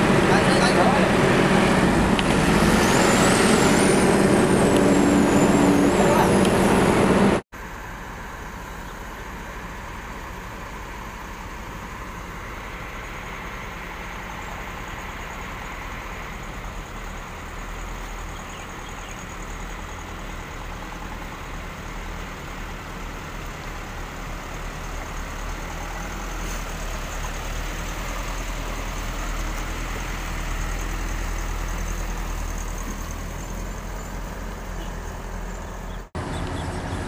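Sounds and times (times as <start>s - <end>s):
diesel engine running at low revs: 0.0s - 37.0s.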